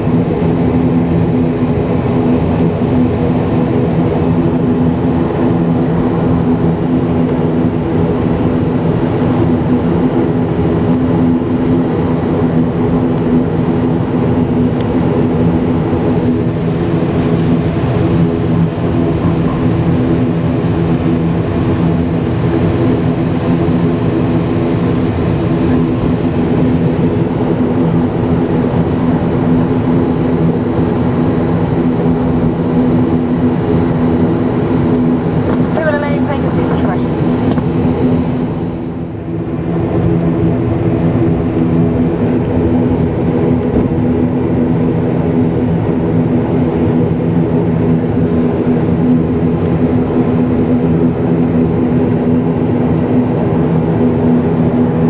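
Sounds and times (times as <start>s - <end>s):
turboprop engines droning in cabin: 0.0s - 55.0s.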